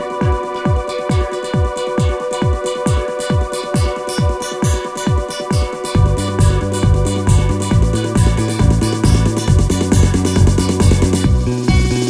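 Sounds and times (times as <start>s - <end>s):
held synth chord: 0.0s - 12.0s
hi-hat strokes: 0.0s - 12.0s
kick drum: 0.0s - 12.0s.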